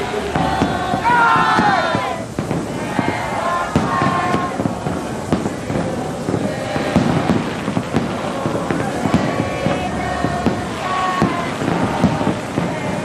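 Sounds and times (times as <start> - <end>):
fireworks booming and crackling: 0.0 - 13.0.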